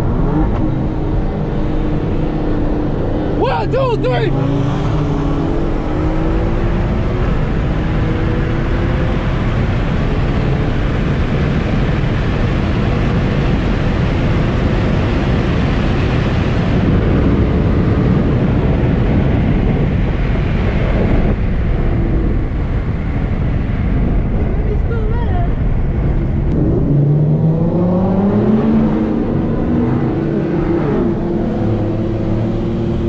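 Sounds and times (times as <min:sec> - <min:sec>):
car engine accelerating: 0:00.0 - 0:33.0
wind and road noise: 0:00.0 - 0:33.0.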